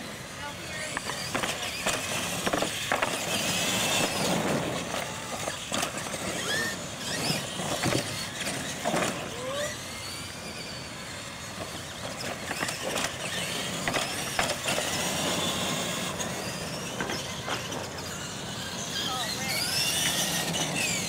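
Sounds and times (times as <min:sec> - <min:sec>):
toy truck motors whirring: 0:00.0 - 0:21.0.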